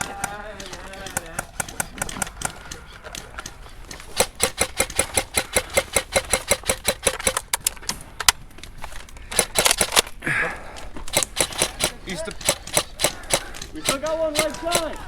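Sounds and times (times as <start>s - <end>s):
rapid sharp clicks: 0.0s - 10.2s, 10.8s - 15.0s.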